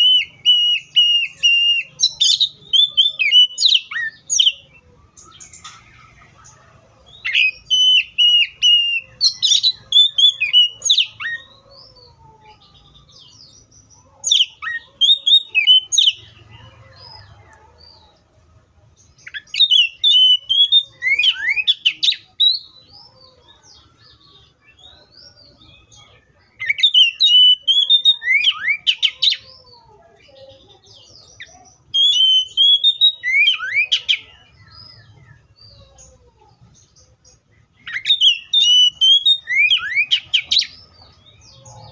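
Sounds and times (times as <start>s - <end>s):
bird singing whistled notes: 0.0s - 12.0s, 12.6s - 16.4s, 19.2s - 23.1s, 24.0s - 29.4s, 31.0s - 35.8s, 37.8s - 41.9s.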